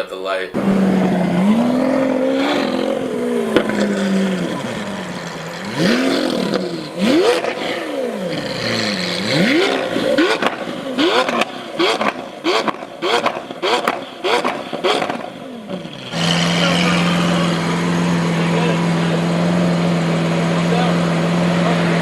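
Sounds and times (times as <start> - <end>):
car engine revving: 0.5 - 22.0
exhaust pops: 0.6 - 22.0.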